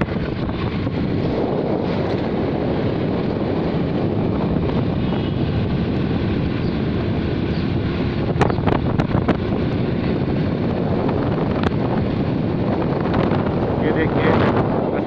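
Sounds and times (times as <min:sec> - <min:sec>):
vehicle road noise: 0:00.0 - 0:15.0
wind on microphone: 0:00.0 - 0:15.0.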